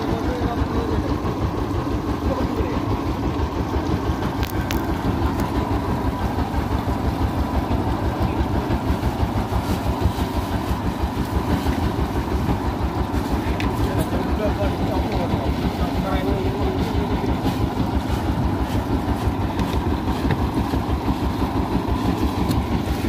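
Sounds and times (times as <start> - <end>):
boat engine throbbing: 0.0 - 23.0.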